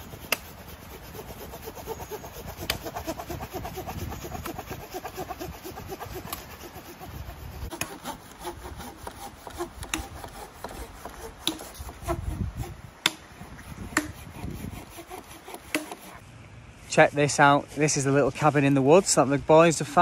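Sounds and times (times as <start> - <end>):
handsaw cutting tree trunk: 0.0 - 16.2.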